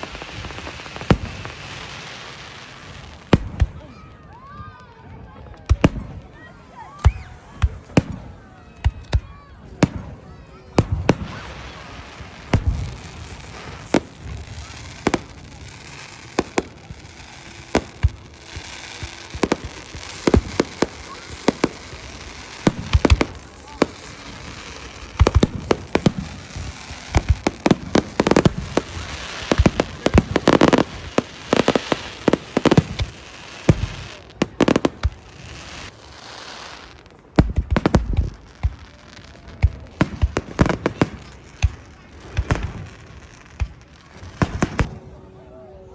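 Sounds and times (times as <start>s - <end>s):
fireworks bangs and crackles: 0.0s - 45.9s.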